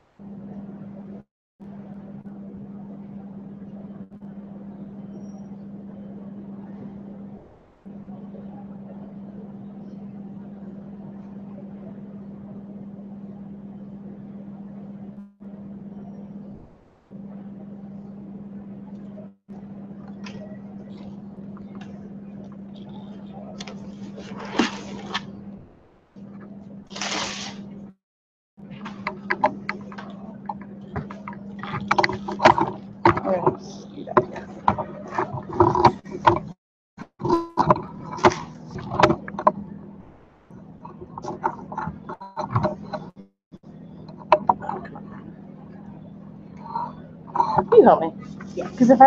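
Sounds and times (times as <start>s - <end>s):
low hum: 0.0s - 28.0s, 28.6s - 49.0s.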